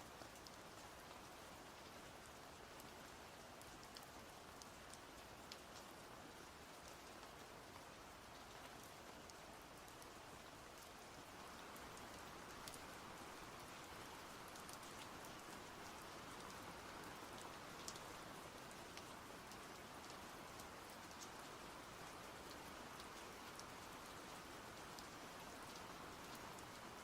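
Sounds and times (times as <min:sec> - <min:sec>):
faint rain with drops ticking: 0:00.0 - 0:27.0.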